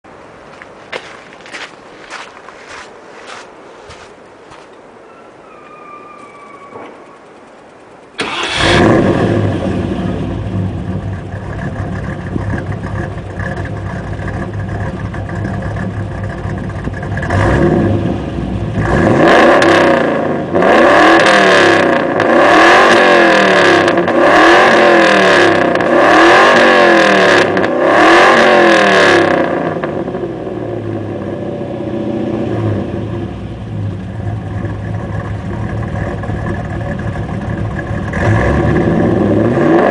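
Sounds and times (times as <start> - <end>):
truck engine idling and revving: 6.8 - 39.9.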